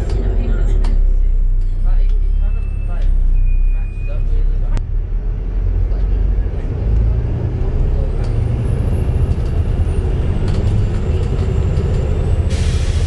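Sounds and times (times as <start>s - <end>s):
bus drivetrain rumble: 0.0s - 13.0s.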